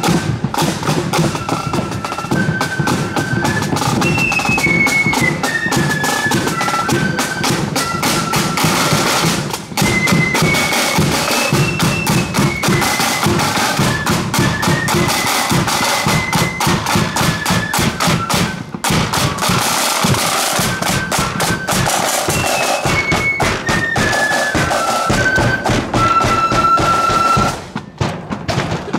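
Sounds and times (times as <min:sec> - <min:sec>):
shrill flutes melody: 0:00.0 - 0:28.0
rapid side-drum strokes: 0:00.0 - 0:28.9.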